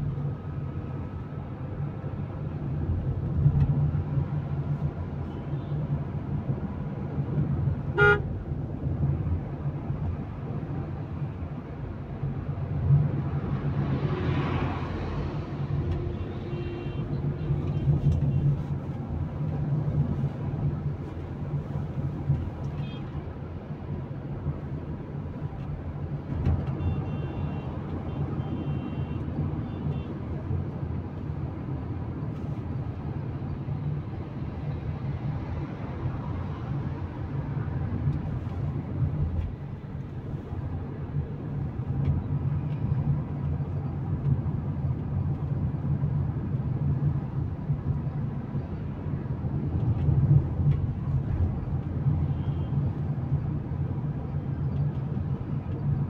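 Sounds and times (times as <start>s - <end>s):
engine and road noise in car: 0.0s - 56.0s.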